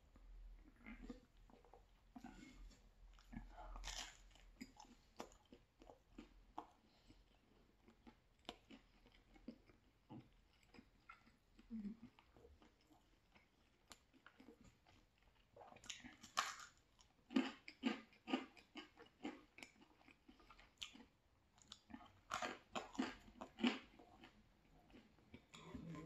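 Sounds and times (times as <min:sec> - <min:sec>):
crunching pizza crust chewing: 0:00.2 - 0:26.0.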